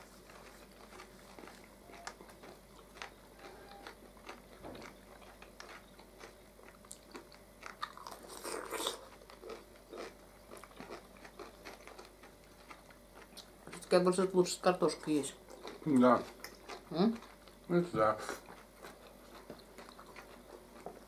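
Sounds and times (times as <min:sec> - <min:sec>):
pickle crunching while chewed: 0:00.0 - 0:13.9, 0:15.4 - 0:21.0.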